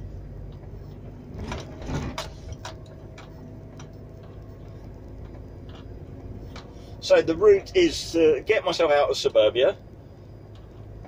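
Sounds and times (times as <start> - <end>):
low engine and road drone: 0.0 - 11.0.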